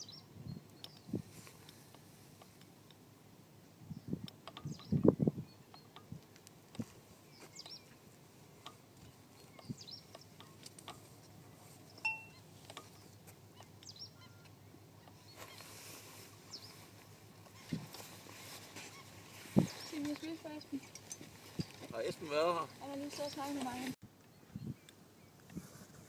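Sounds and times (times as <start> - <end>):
distant bird calls: 0.0 - 25.4.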